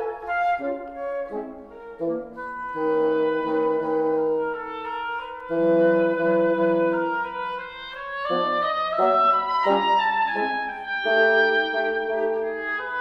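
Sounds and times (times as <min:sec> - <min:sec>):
woodwind quartet playing slowly: 0:00.0 - 0:13.0.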